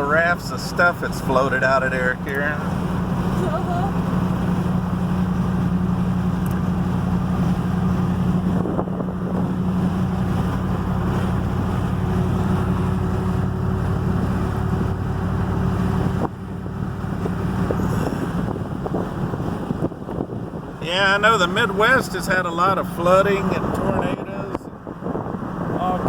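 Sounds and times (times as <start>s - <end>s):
vehicle engine droning: 0.0s - 26.0s.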